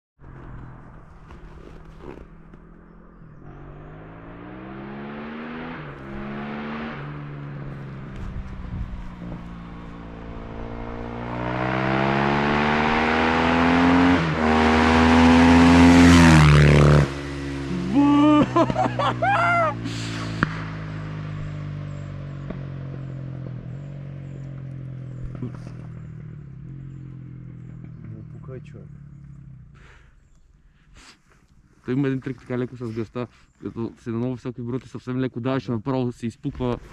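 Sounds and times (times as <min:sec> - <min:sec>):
dirt bike engine revving: 0:00.6 - 0:30.2.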